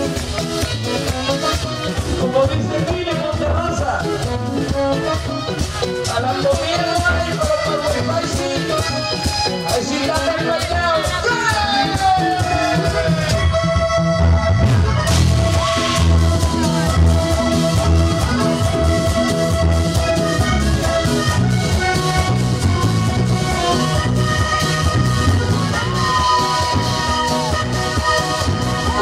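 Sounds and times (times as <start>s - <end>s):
button accordion melody: 0.0s - 29.0s
live band playing: 0.0s - 29.0s.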